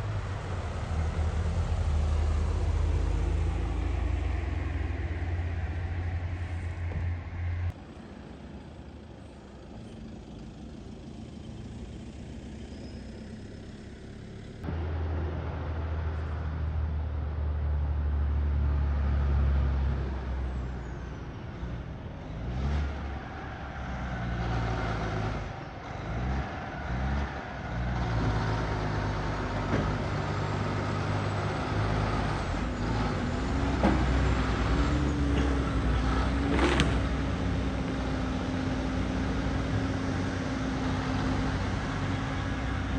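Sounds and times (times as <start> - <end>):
truck diesel engine: 0.0 - 42.9.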